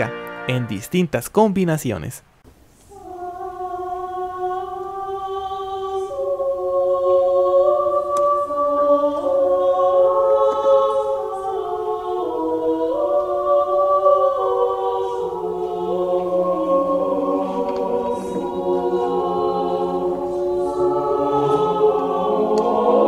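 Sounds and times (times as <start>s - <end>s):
a cappella choir singing: 2.8s - 23.0s.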